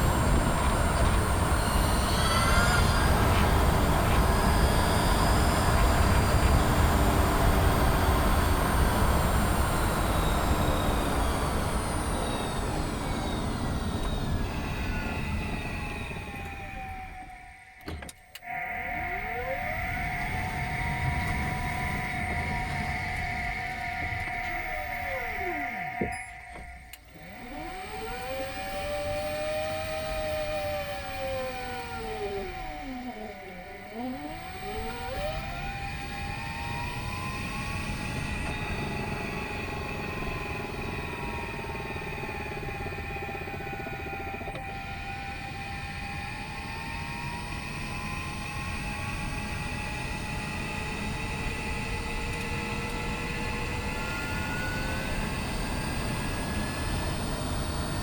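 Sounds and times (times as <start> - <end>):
driveline whining: 0.0 - 58.0.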